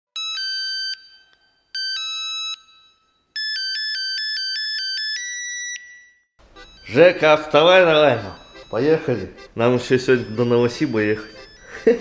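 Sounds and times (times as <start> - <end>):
phone alarm chiming ringtone: 0.2 - 12.0.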